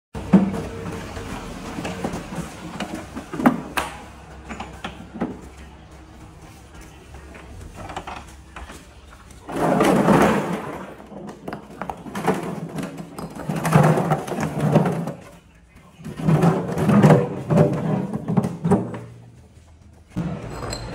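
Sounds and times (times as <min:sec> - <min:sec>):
metal wheelbarrow rolling: 0:00.2 - 0:20.9.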